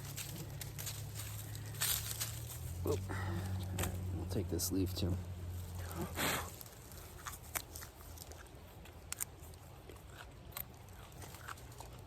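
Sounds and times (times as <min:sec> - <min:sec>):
person chewing crisp leaf: 0:00.0 - 0:04.1, 0:05.4 - 0:12.0.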